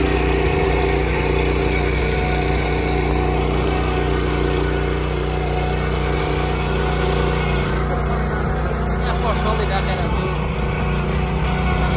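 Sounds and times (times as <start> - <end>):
rotary tines tilling soil: 0.0 - 11.9
small petrol engine running: 0.0 - 11.9.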